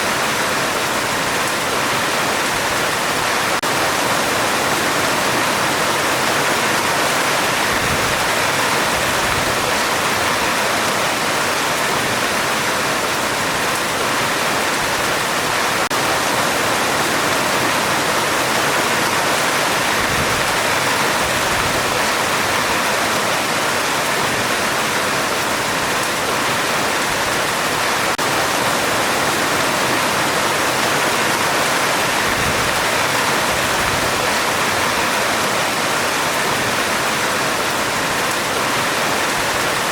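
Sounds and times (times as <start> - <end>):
heavy rain on metal roof: 0.0 - 39.9.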